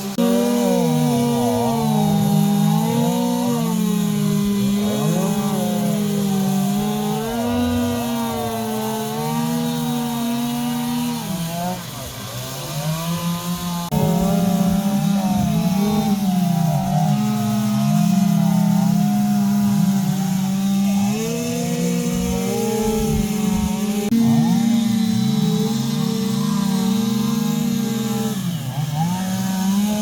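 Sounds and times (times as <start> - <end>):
chainsaw carving wood: 0.0 - 30.0.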